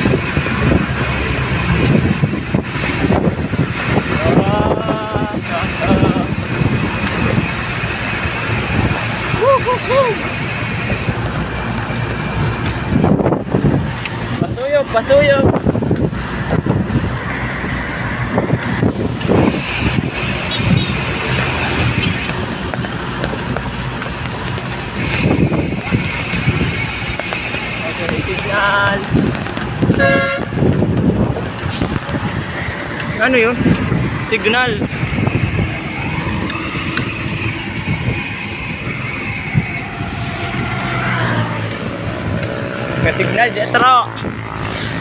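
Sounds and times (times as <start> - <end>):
wind on microphone: 0.0 - 22.8, 24.3 - 45.0
bicycle tyres rolling on concrete: 0.0 - 45.0
vehicle engine and road noise: 0.0 - 45.0.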